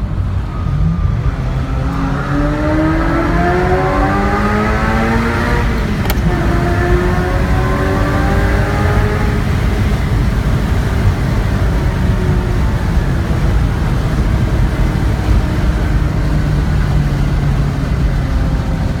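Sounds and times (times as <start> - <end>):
car engine rumbling in a tunnel: 0.0 - 19.0.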